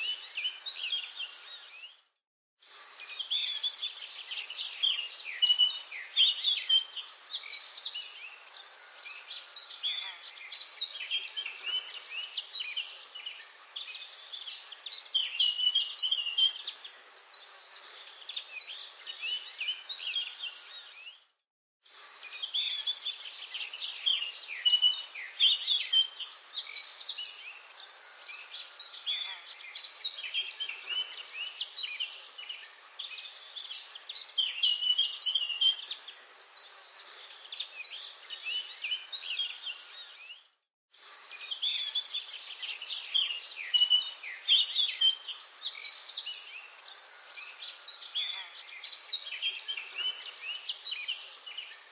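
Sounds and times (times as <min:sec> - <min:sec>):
birds chirping and twittering: 0:00.0 - 0:51.9.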